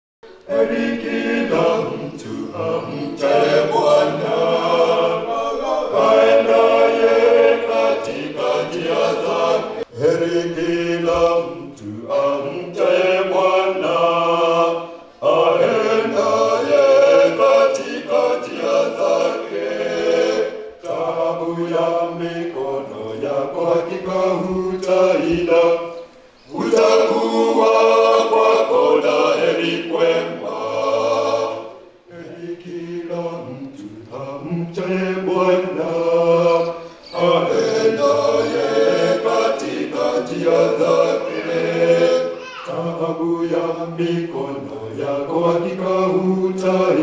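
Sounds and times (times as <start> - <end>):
male vocal group singing a cappella: 0.3 - 47.0.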